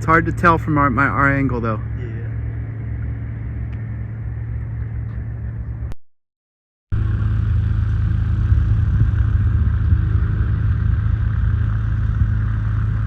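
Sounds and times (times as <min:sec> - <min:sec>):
engine droning: 0:00.0 - 0:06.0, 0:06.9 - 0:13.0.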